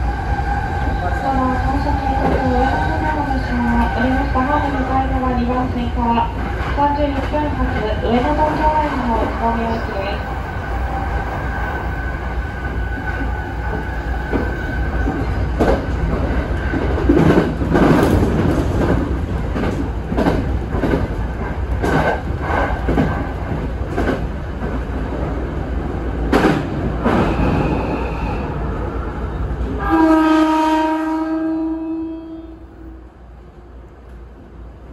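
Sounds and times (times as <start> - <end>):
train low rumble: 0.0 - 34.9.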